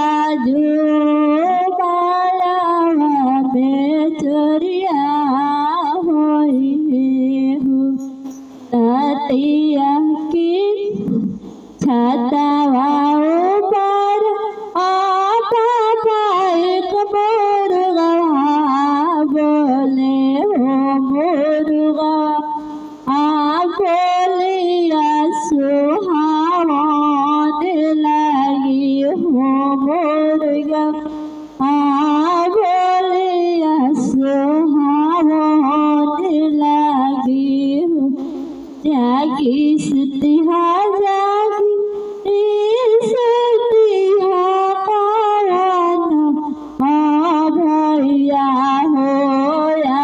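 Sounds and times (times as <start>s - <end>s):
woman singing folk song: 0.0s - 50.0s.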